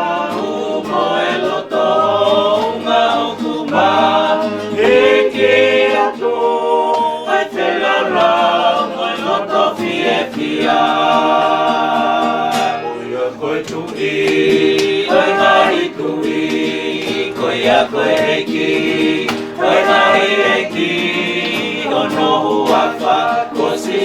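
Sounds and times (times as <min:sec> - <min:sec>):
choir singing a cappella hymn: 0:00.0 - 0:24.0.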